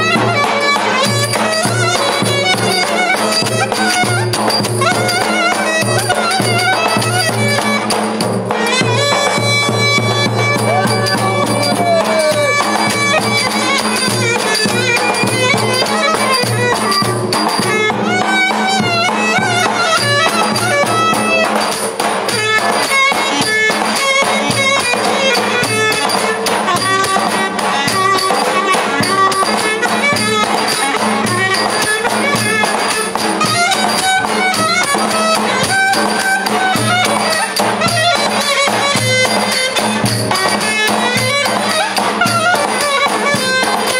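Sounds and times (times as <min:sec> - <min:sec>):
shrill reed wind instrument melody: 0:00.0 - 0:43.9.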